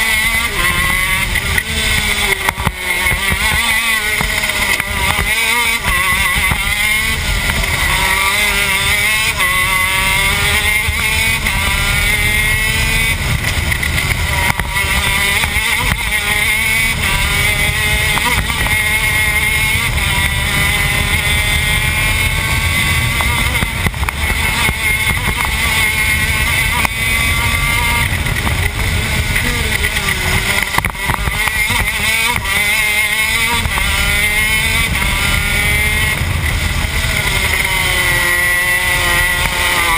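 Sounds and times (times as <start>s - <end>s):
kart engine shifting gears: 0.0s - 39.9s.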